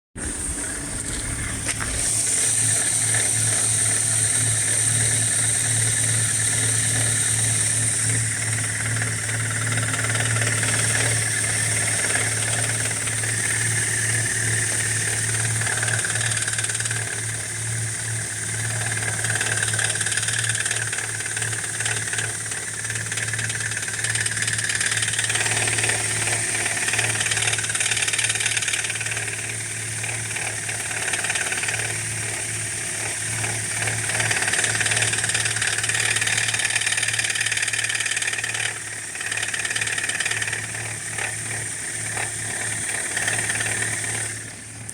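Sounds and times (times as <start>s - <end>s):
engine lifter clatter: 8.1s - 44.9s.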